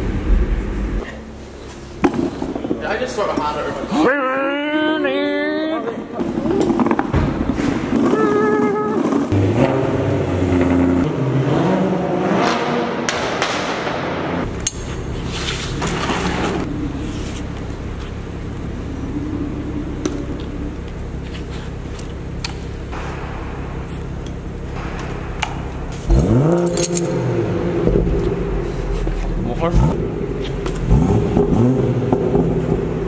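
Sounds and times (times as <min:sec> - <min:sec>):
car engine revving and idling: 0:05.9 - 0:33.0.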